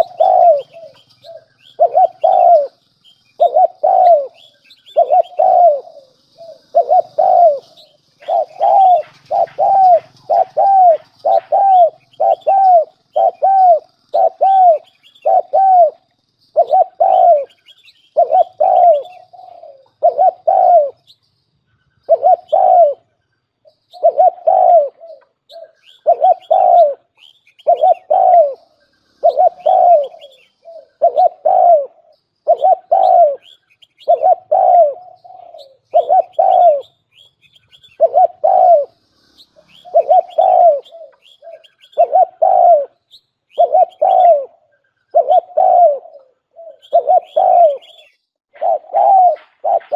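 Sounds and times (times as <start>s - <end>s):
dove cooing: 0.0s - 21.2s, 22.0s - 49.9s
small birds chirping: 0.0s - 49.9s.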